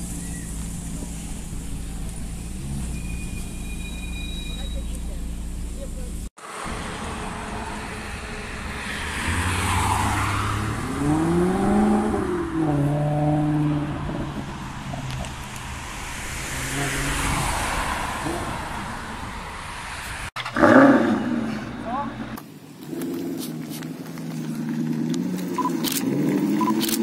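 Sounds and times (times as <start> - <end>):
passing street traffic: 0.0 - 27.0
car engine revving: 4.9 - 27.0.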